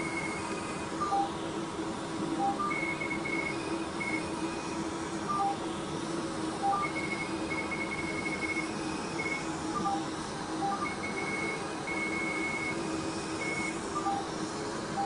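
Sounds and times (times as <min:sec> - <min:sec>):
laser machine beeping: 0:00.0 - 0:01.4, 0:02.3 - 0:15.0
machine hum and hiss: 0:00.0 - 0:15.0.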